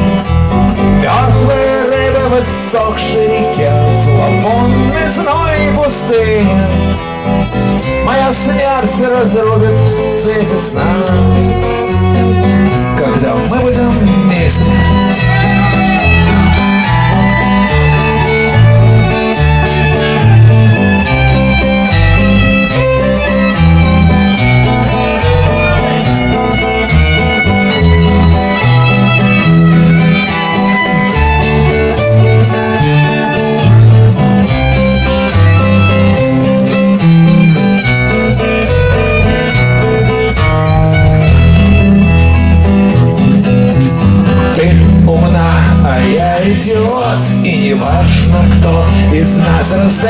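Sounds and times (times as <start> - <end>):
bass line: 0.0 - 50.0
guitars: 0.0 - 50.0
violin: 0.0 - 50.0.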